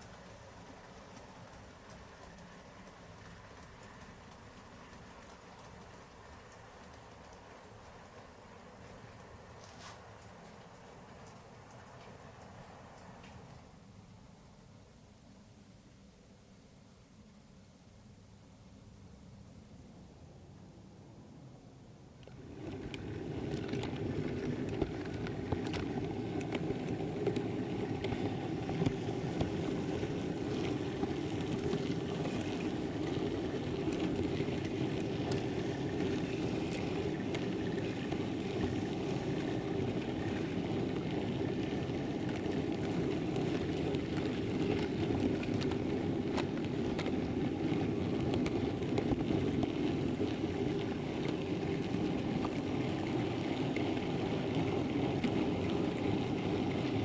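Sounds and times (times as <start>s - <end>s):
model wagons rumbling on track: 0.0s - 13.2s, 22.2s - 57.0s
wheels clicking over rail joints: 0.0s - 13.7s, 22.2s - 57.0s.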